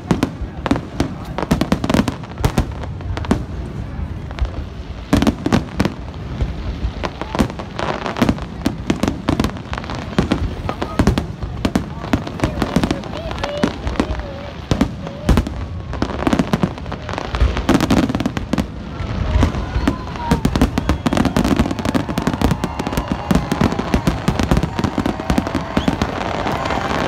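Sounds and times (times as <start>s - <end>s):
deep fireworks booms: 0.0s - 27.0s
fireworks bangs and crackles: 0.0s - 27.0s.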